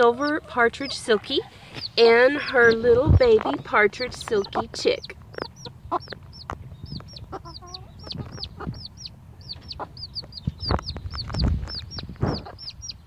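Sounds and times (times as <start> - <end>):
chick peeping: 0.0 - 13.0
hen clucking: 0.0 - 13.0
low thumps and rumbling: 1.8 - 13.0.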